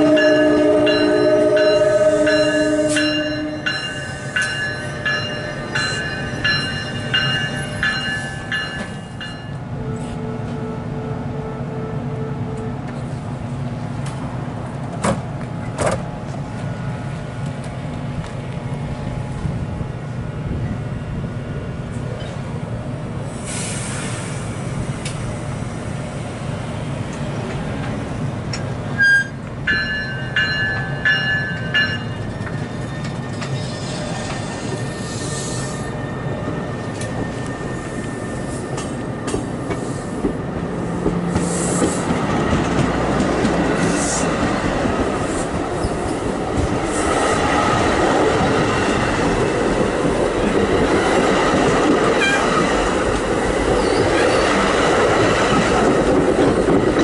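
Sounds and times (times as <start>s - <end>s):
train wheels rumbling on rail: 0.0s - 11.0s, 11.7s - 57.0s.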